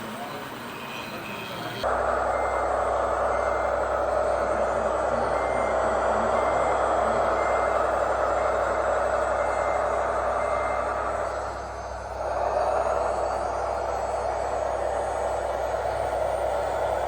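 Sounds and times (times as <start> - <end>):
model truck running noise: 0.0 - 17.0
reversing beeper: 0.2 - 17.0.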